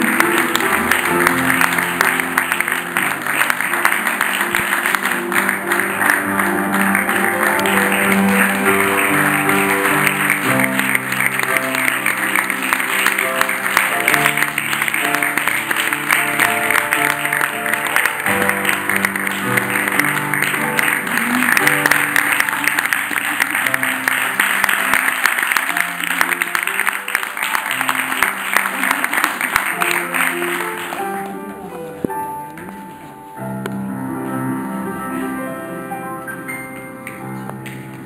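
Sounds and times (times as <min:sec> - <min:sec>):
audience applause: 0:00.0 - 0:32.7, 0:37.0 - 0:38.0
grand piano playing: 0:00.0 - 0:38.0.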